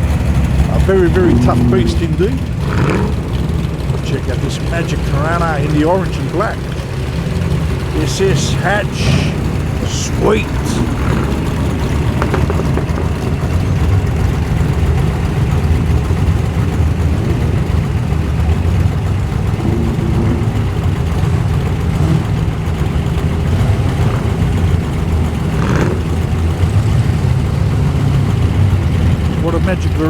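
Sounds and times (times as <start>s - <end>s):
car engine idling deep rumble: 0.0s - 30.0s.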